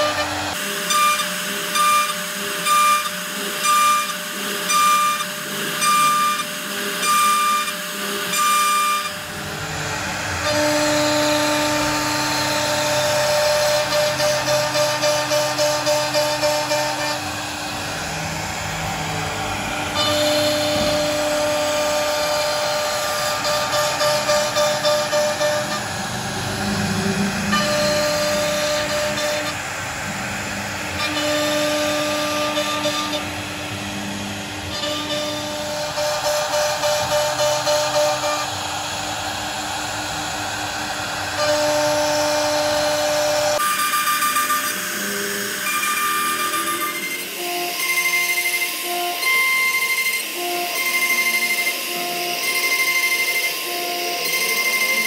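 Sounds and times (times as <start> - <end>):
router spindle carving wood: 0.0 - 55.0.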